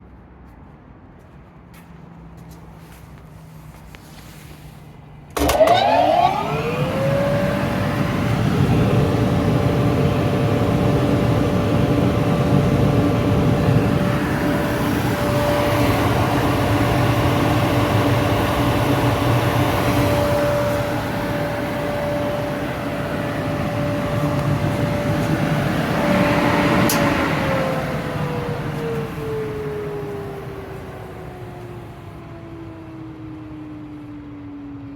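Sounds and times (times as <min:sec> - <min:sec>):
fan motor whining and humming: 0:05.2 - 0:34.9.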